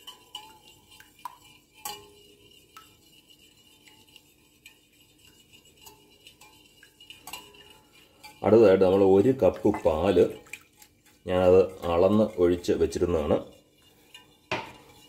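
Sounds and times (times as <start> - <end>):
whisk ticking against bowl: 0.0 - 15.0.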